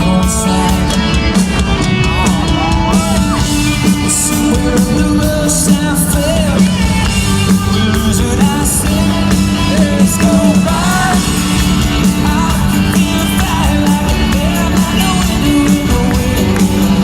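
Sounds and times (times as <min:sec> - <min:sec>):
live country-rock band: 0:00.0 - 0:17.0
man singing: 0:00.0 - 0:17.0
steady drums: 0:00.0 - 0:17.0.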